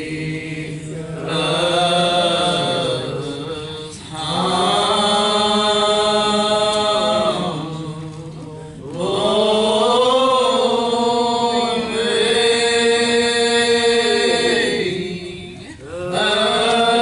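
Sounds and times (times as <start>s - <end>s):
church choir singing: 0.0s - 17.0s.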